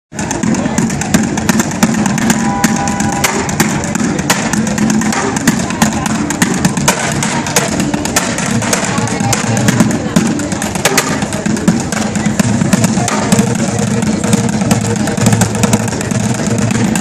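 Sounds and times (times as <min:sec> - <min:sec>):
city street noise: 0:00.1 - 0:17.0
drumming on bucket and pots: 0:00.1 - 0:17.0.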